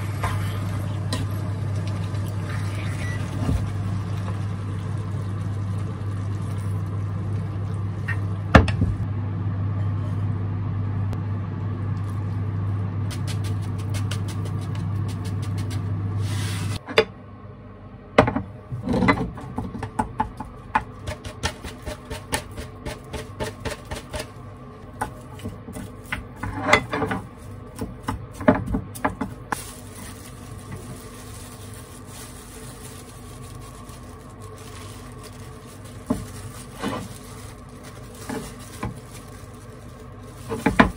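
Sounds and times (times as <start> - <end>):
induction cooktop humming: 0.0 - 40.9.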